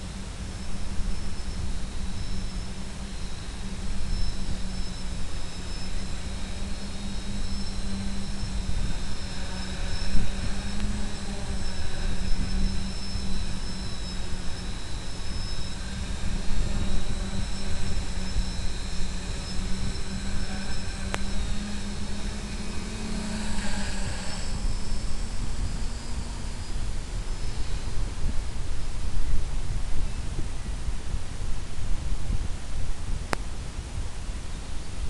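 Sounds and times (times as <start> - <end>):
drone motors hovering: 0.0 - 35.0.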